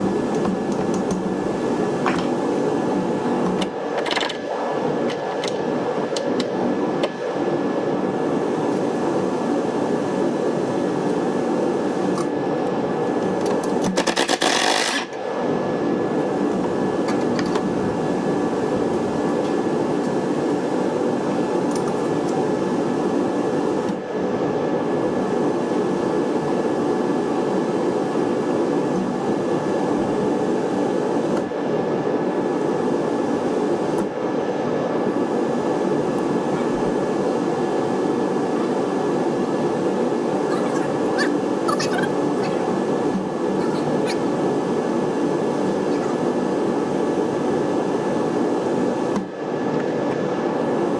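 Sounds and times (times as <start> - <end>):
mechanical hum with whine: 0.0 - 50.9.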